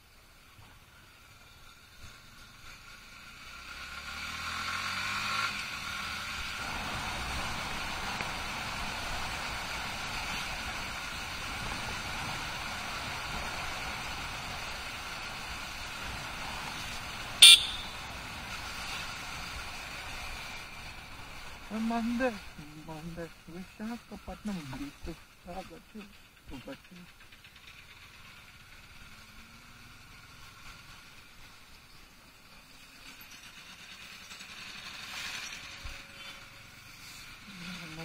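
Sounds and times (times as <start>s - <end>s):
motorcycle engine revving: 2.1s - 38.0s.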